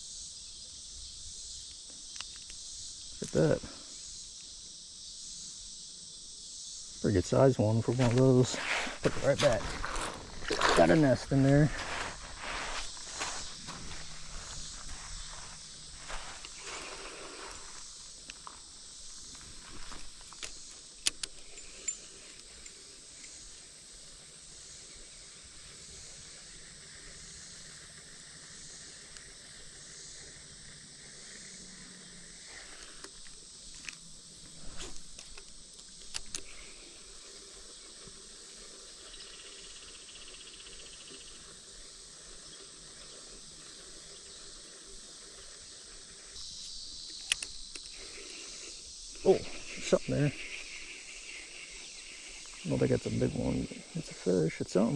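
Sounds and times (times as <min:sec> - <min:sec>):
insects calling: 0:00.0 - 0:54.9.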